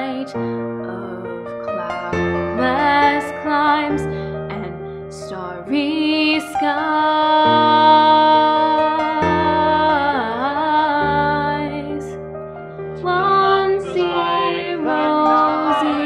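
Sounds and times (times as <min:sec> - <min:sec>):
woman singing: 0:00.0 - 0:01.4, 0:02.5 - 0:12.2, 0:13.0 - 0:16.0
sustained keyboard chords: 0:00.0 - 0:16.0.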